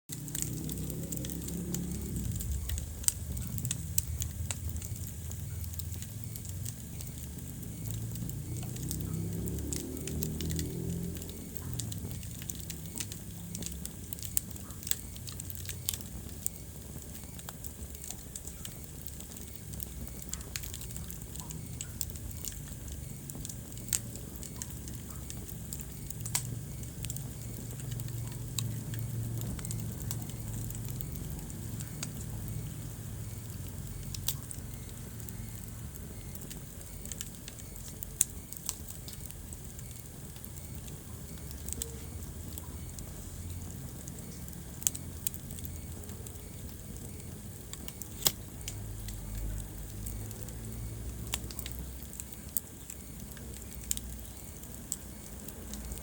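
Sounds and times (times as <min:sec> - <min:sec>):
logs crackling and popping: 0:00.1 - 0:56.0
low rumble of fire flames: 0:00.1 - 0:56.0.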